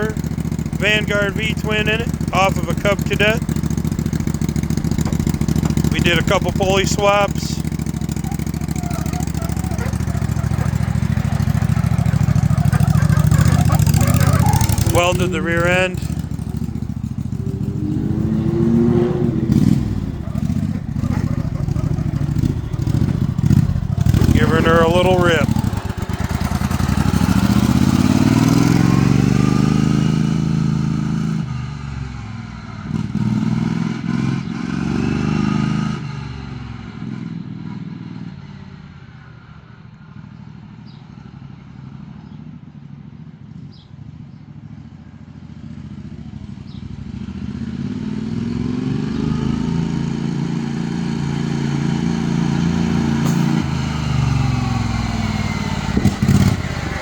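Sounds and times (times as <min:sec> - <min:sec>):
riding mower engine revving: 0:00.0 - 0:38.3, 0:45.8 - 0:57.0.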